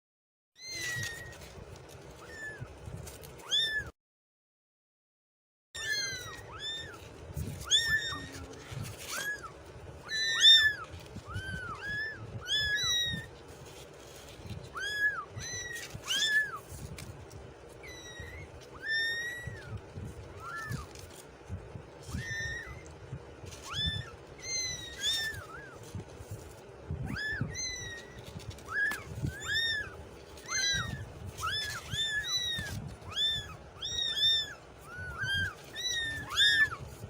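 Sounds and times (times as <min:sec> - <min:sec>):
kitten meowing: 0:00.6 - 0:02.8, 0:03.4 - 0:03.9, 0:05.8 - 0:17.0, 0:17.7 - 0:21.2, 0:22.0 - 0:37.0.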